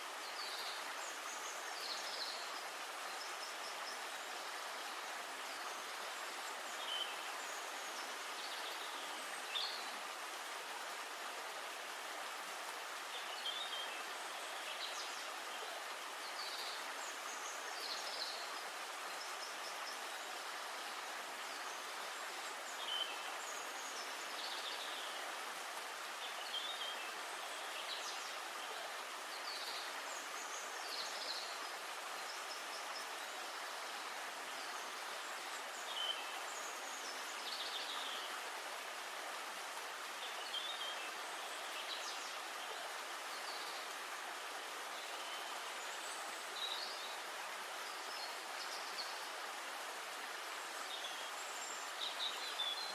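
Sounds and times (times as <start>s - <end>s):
outdoor ambient hiss: 0.0s - 52.9s.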